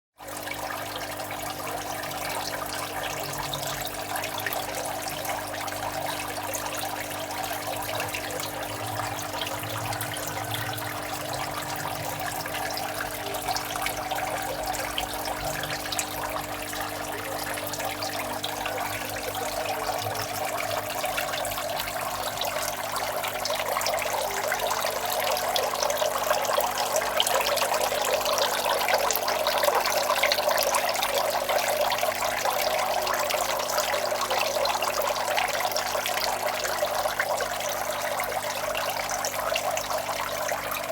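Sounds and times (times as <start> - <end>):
water trickling into a fish tank: 0.2 - 40.9.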